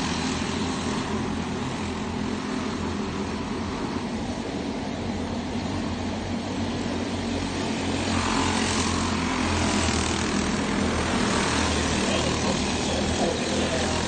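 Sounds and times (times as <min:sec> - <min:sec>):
race car engines buzzing: 0:00.0 - 0:14.0.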